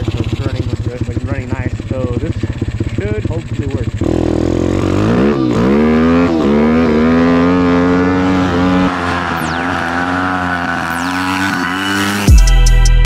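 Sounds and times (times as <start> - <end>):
motorbike engine revving: 0.0 - 12.8.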